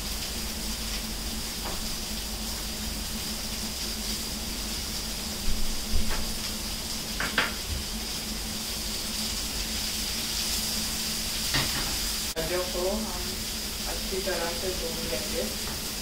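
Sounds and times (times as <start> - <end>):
onions sizzling in oil: 0.0 - 16.0
steady hum: 0.0 - 16.0.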